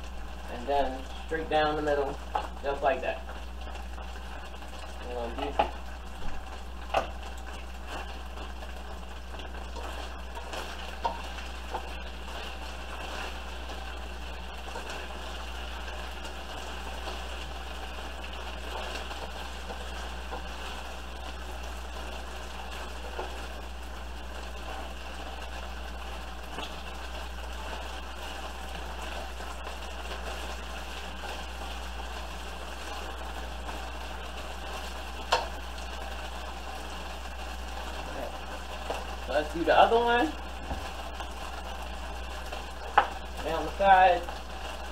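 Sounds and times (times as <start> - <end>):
low steady hum: 0.0 - 44.9
meat sizzling in a skillet: 0.0 - 44.9.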